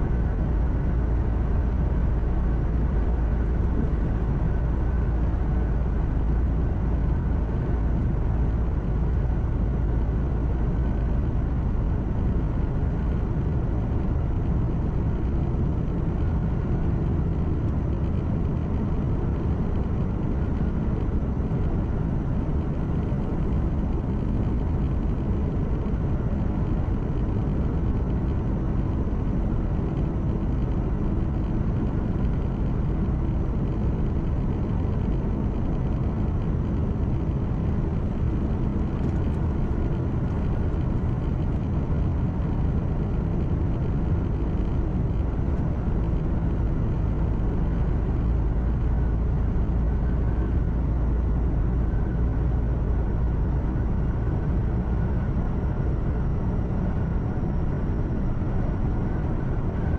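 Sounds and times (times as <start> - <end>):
truck diesel engine drone: 0.0 - 59.9
tyre road rumble: 0.0 - 59.9.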